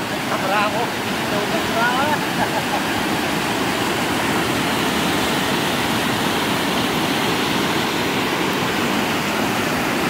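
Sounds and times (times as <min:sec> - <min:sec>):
floodwater rushing over a dam: 0:00.0 - 0:10.0.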